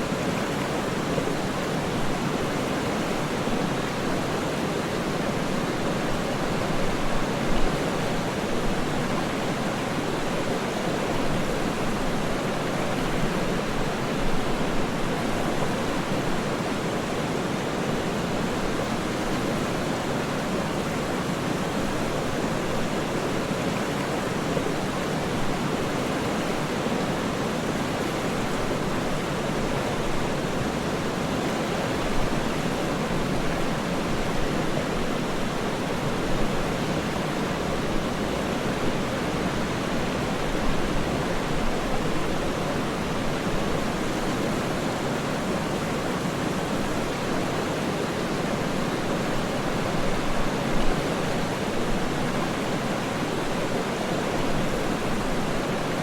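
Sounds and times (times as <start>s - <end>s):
waterfall rushing: 8.0s - 56.0s.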